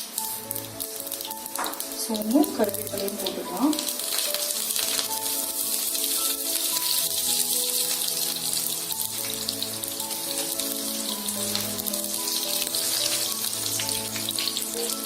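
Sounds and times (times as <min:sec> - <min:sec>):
background music with held notes: 0:00.0 - 0:15.0
spices sizzling in hot oil: 0:00.0 - 0:15.0.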